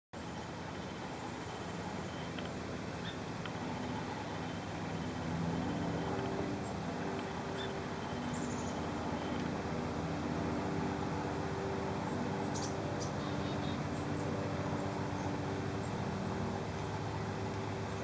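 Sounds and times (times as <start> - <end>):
vehicle engine humming: 0.2 - 18.0.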